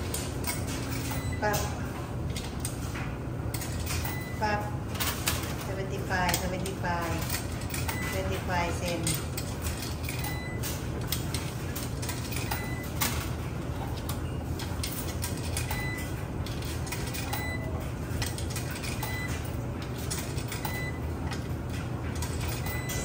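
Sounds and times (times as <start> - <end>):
coins clicking through coin slot: 0.0 - 23.0
steady low hum: 0.0 - 23.0.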